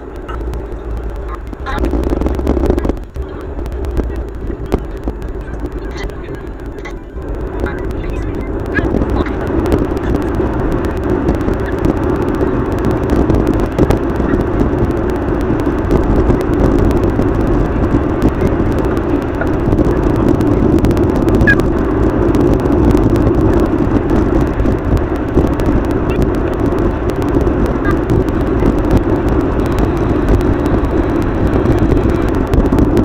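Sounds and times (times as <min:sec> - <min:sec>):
sped-up car driving rush: 0:00.0 - 0:33.0.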